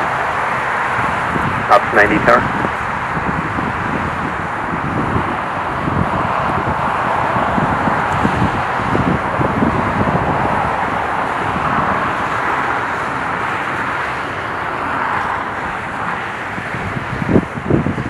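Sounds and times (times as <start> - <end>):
distant traffic roar: 0.0 - 18.0
wind buffeting microphone: 0.0 - 18.0.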